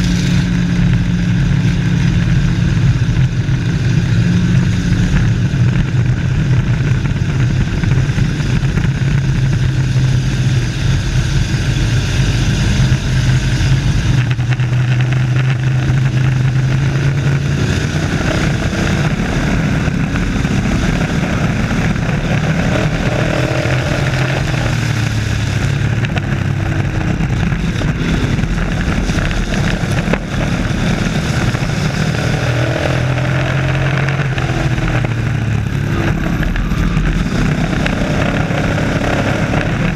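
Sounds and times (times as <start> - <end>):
race truck engines running: 0.0 - 39.9.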